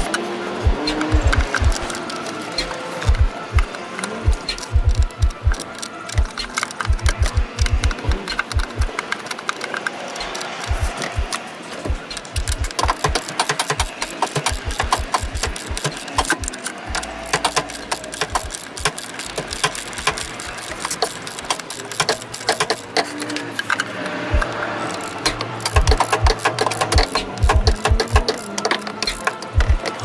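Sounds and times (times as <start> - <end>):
socket ratchet clicking: 0.0 - 30.0.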